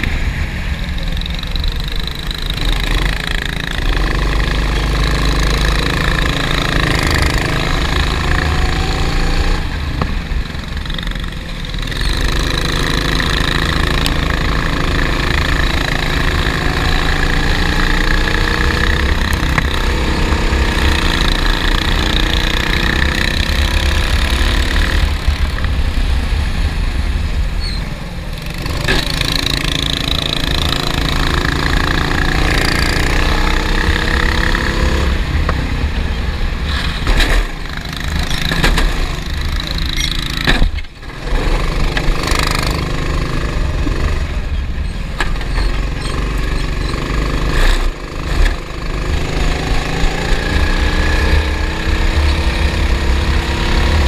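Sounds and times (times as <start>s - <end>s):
kart engine accelerating: 1.0s - 25.7s, 28.2s - 54.0s.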